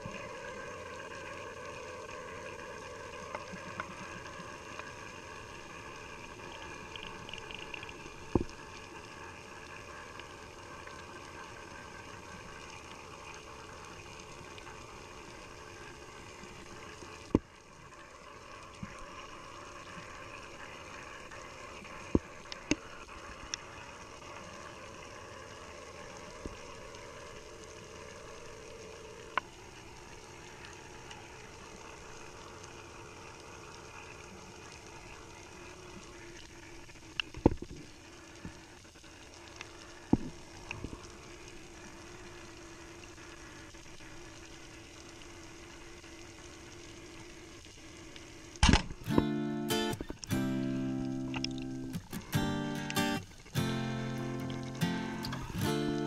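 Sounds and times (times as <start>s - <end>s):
underwater hiss and hum: 0.0s - 56.0s.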